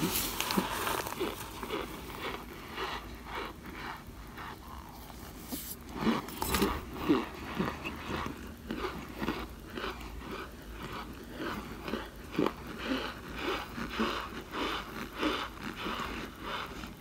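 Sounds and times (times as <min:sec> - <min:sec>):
crunchy food being chewed: 0:00.0 - 0:17.0.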